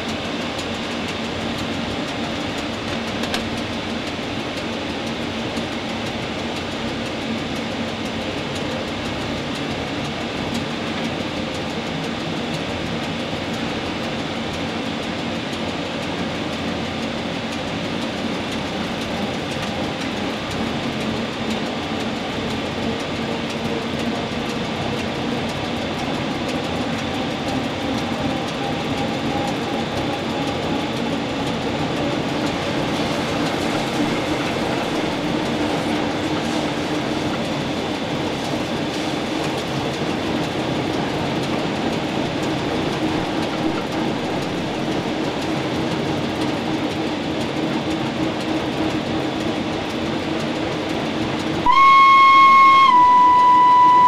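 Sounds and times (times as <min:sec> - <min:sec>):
locomotive wheels on rails: 0:00.0 - 0:54.0.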